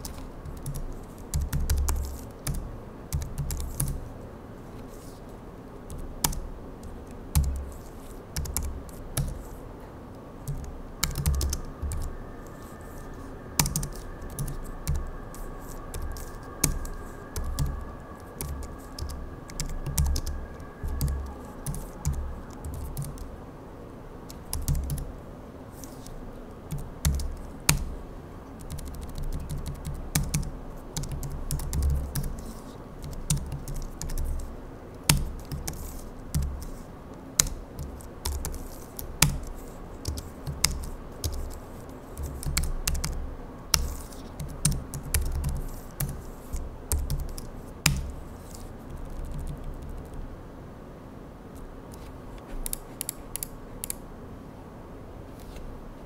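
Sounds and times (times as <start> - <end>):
computer keyboard typing: 0.0 - 4.0, 5.9 - 9.6, 10.4 - 23.3, 24.3 - 25.1, 26.7 - 27.9, 28.6 - 36.8, 37.4 - 50.2, 52.6 - 54.0.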